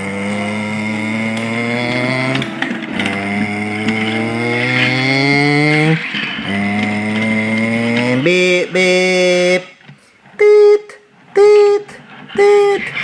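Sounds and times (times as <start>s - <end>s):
person imitating truck engine: 0.0s - 9.8s, 10.4s - 13.0s.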